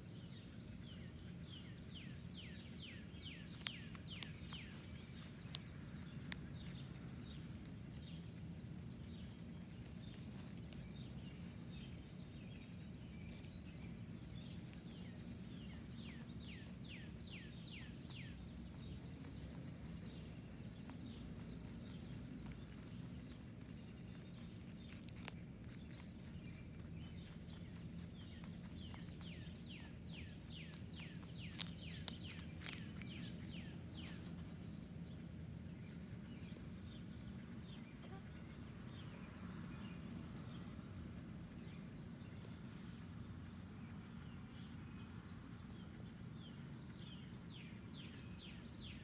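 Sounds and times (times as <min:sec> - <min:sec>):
rabbit crunching carrot: 0:00.0 - 0:39.9
steady low hum: 0:00.0 - 0:49.0.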